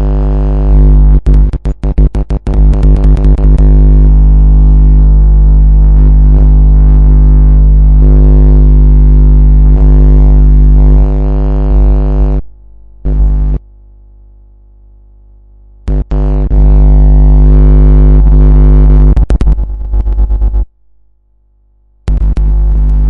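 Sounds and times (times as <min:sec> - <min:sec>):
electrical buzz over deep hum: 0:00.0 - 0:23.0.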